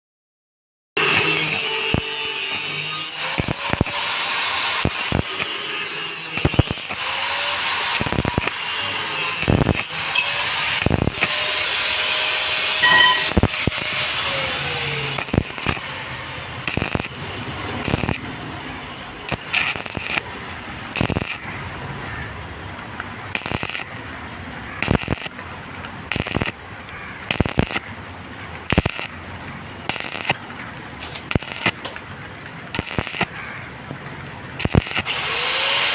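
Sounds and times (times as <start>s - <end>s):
electric arc welding crackling: 1.0s - 21.7s, 23.3s - 24.0s, 24.8s - 28.0s, 28.6s - 32.0s, 32.7s - 33.4s, 34.5s - 35.9s.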